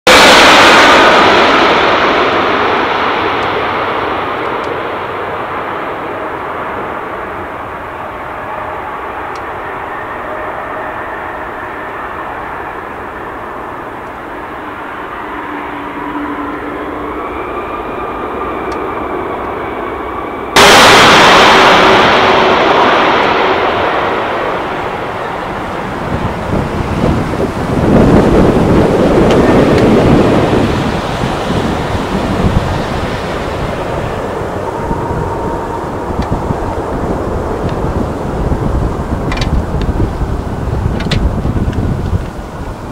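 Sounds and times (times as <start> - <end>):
jet airliner passing overhead: 0.0 - 42.9.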